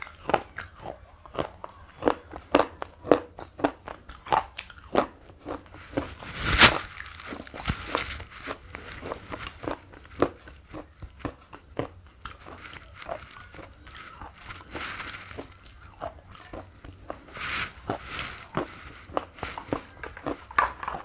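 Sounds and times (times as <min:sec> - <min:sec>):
chewing crisp crunches: 0:00.0 - 0:21.0.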